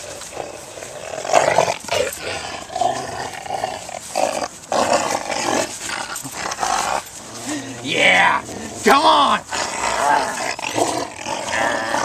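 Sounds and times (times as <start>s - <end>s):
dog growling: 0.0s - 12.0s.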